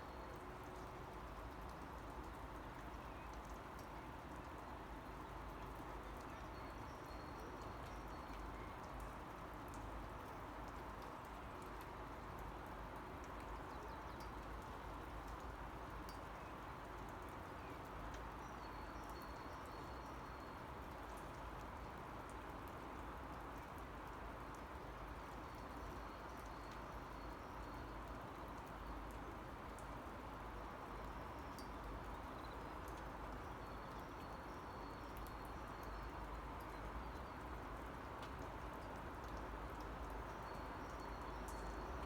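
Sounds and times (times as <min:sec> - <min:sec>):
steady rain: 0:00.0 - 0:42.0
sharp water drips: 0:00.2 - 0:42.0.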